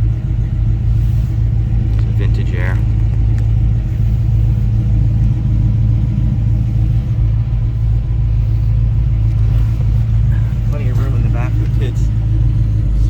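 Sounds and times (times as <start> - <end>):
engine idling low rumble: 0.0 - 13.0.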